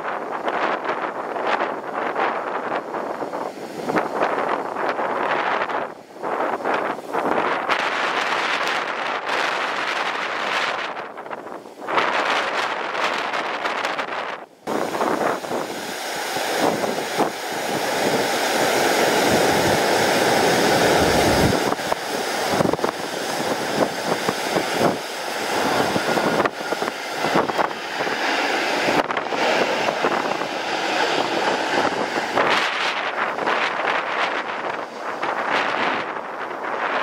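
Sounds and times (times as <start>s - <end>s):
airliner jet engine passing: 0.0s - 37.0s
wind buffeting microphone: 0.0s - 37.0s.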